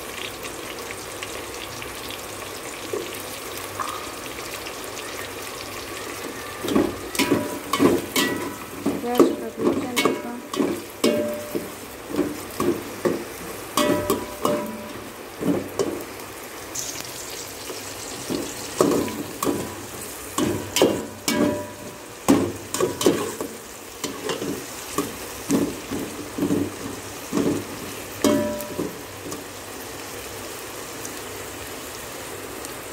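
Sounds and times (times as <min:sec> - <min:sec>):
onions sizzling in oil: 0:00.0 - 0:32.9.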